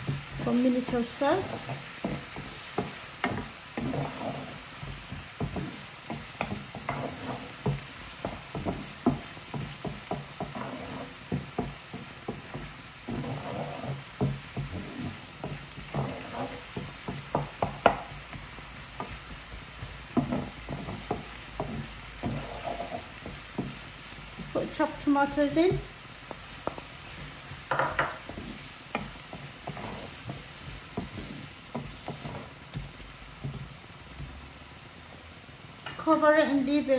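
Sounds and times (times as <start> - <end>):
spatula scraping a frying pan: 0.0 - 34.3
oil sizzling: 0.0 - 36.9.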